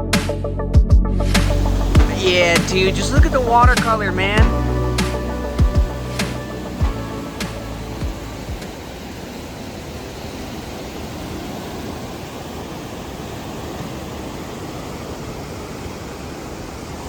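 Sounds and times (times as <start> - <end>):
fast-flowing river rushing: 1.6 - 17.0.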